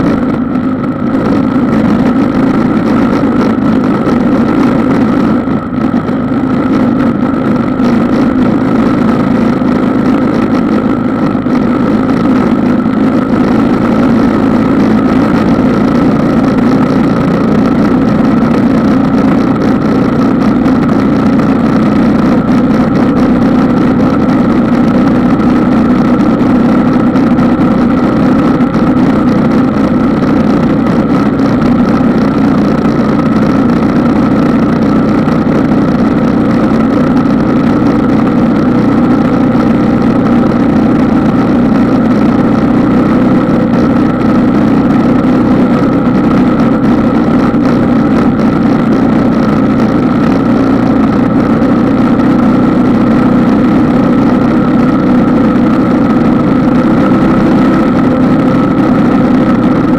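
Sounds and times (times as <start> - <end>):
small vehicle engine running: 0.0 - 59.9.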